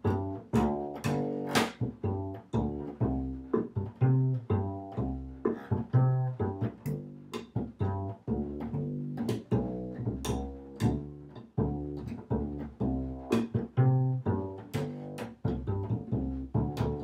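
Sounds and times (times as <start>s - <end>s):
plucked bass notes: 0.0s - 17.0s.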